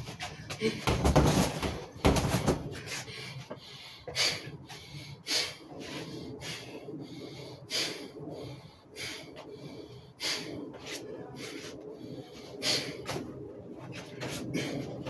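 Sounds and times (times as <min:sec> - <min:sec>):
man breathing hard: 0:01.7 - 0:15.0.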